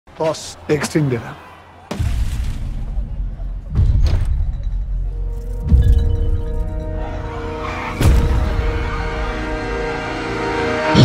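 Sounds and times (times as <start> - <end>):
soundtrack music: 2.1 - 11.0.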